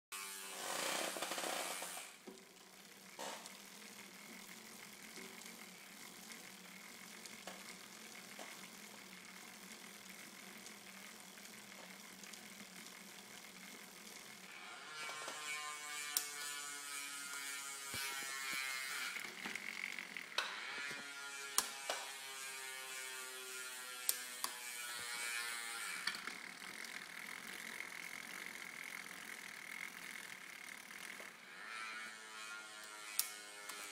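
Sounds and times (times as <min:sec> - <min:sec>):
bicycle chain ratcheting whir: 0:00.1 - 0:33.9.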